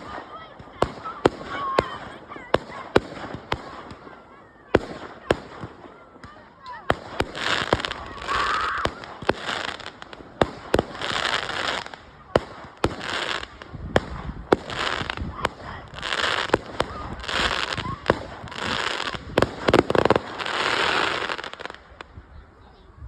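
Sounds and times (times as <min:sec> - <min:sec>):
fireworks hissing: 0:00.0 - 0:22.2.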